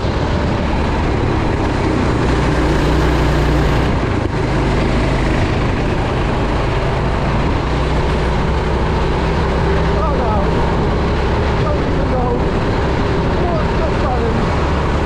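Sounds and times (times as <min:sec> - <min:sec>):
go-kart engine running hard: 0:00.0 - 0:15.0.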